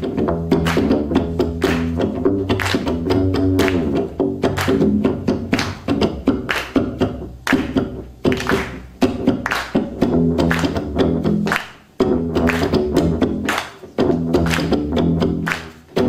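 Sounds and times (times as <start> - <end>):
plucked bass notes: 0.0 - 16.0.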